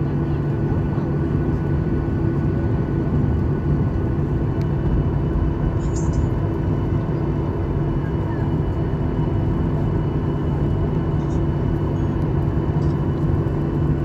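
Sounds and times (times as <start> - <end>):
aircraft cabin engine rumble: 0.0 - 14.0.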